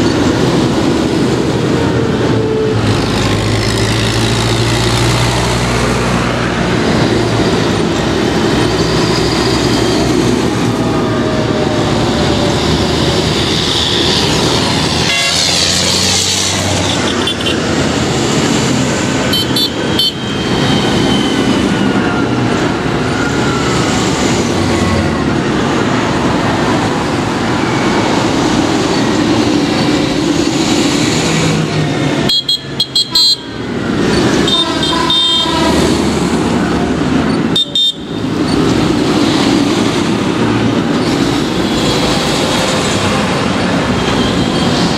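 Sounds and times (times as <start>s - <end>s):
tractor diesel engines: 0.0s - 44.9s
tyres on road: 0.0s - 44.9s.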